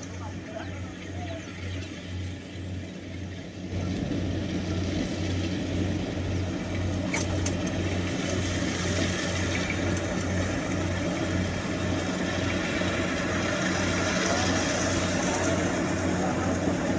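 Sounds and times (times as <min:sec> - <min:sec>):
pulsing diesel engine hum: 0:00.0 - 0:16.9.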